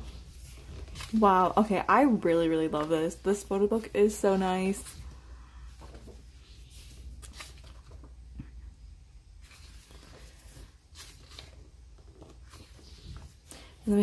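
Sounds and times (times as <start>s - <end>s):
book pages turning: 0.0s - 8.4s, 9.4s - 13.8s.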